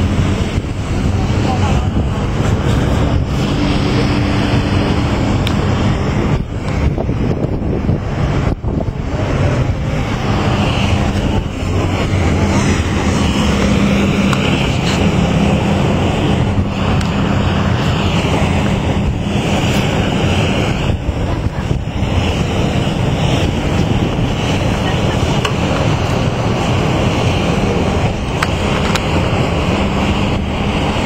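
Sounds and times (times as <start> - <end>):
steady low hum: 0.0 - 31.0
wind buffeting microphone: 0.0 - 31.0.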